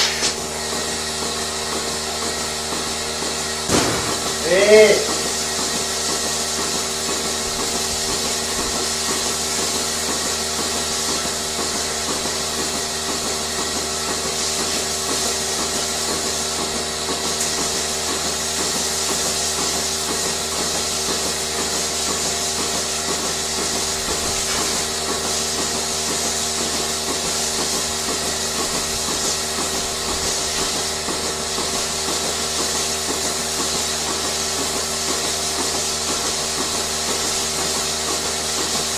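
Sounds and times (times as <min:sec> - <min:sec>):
machinery humming and hissing rhythmically: 0:00.0 - 0:38.9.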